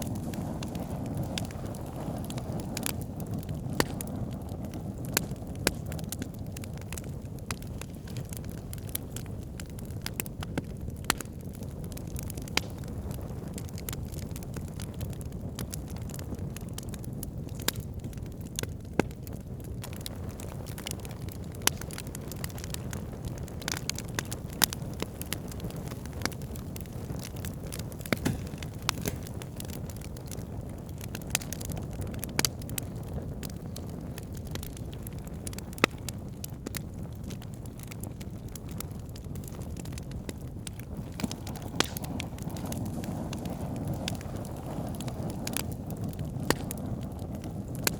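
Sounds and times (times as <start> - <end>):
campfire crackling: 0.0 - 47.9
fire low rumble: 0.0 - 47.9.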